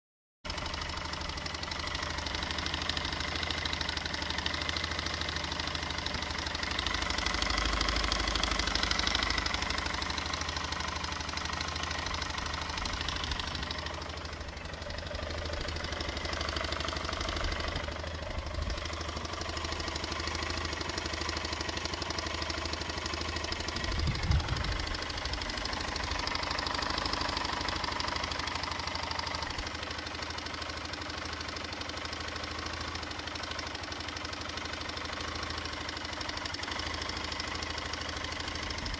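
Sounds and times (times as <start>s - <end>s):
engine rattling and ticking: 0.4s - 38.9s
car engine running: 0.5s - 38.9s.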